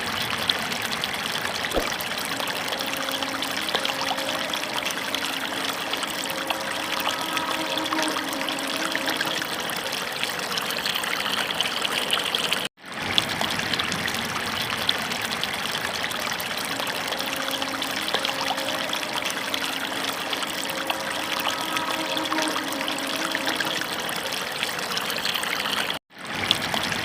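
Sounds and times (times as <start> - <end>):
water running and splashing: 0.0 - 27.0.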